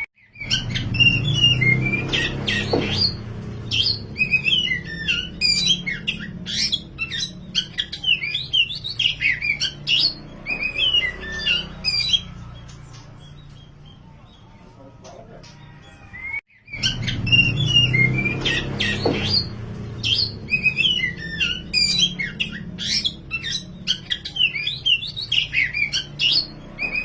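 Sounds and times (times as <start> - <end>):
bird singing whistled notes: 0.0 - 14.0, 15.8 - 27.0.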